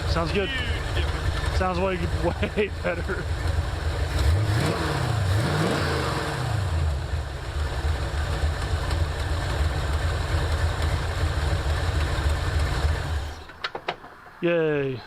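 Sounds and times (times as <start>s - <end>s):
engine revving: 0.0s - 13.5s
car engine idling: 0.0s - 13.6s.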